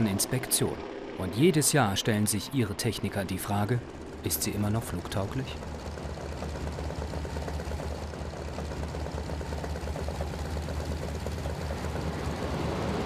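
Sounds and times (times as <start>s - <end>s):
aircraft engines droning: 0.0s - 13.0s.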